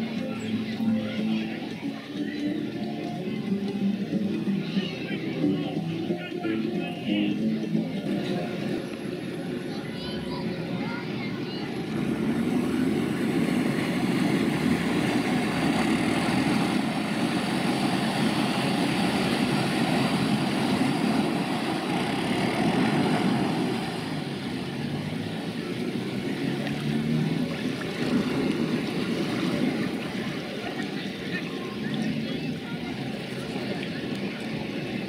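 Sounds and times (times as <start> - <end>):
boat engine running: 0.0 - 35.0
water churning: 5.2 - 35.0.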